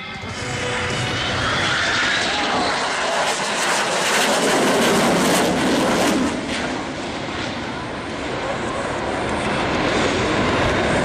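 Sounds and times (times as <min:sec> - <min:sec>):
airplane engine roar: 0:00.0 - 0:11.0.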